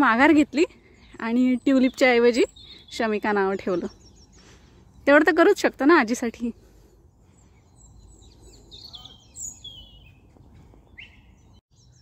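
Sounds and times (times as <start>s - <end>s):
songbirds chirping and singing: 0.0s - 12.0s.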